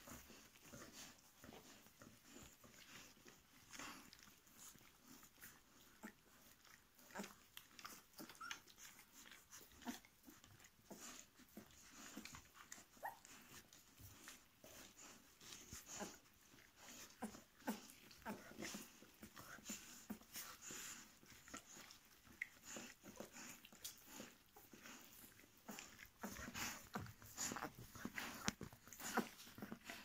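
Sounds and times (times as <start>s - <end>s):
puppies squeaking and whimpering: 0.0s - 30.0s
small clicks and rustling: 0.0s - 30.0s
soft snuffling: 0.0s - 30.0s.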